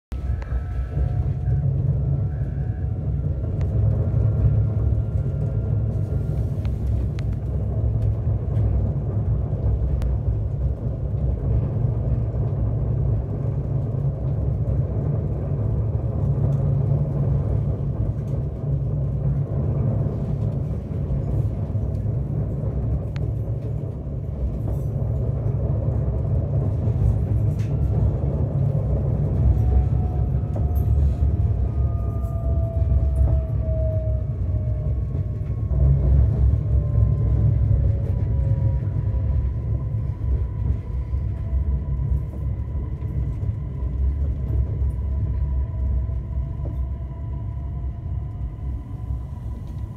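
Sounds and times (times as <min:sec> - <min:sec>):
train rumble inside carriage: 0:00.1 - 0:49.9.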